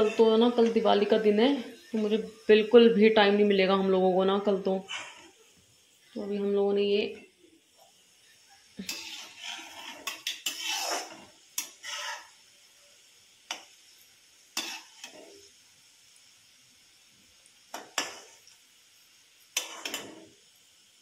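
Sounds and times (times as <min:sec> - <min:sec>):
frying in hot oil sizzling: 0:00.0 - 0:21.0.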